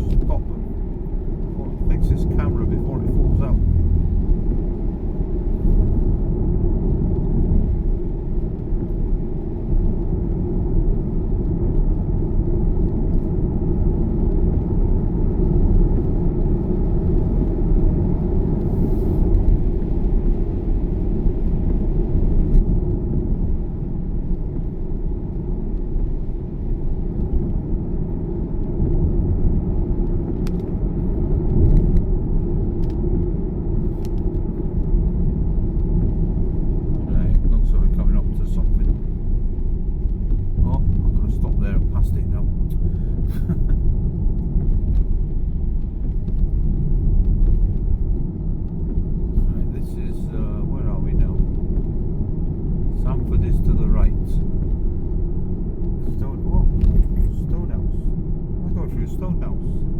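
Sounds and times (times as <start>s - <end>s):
car engine and tyres on wet road: 0.0s - 59.9s.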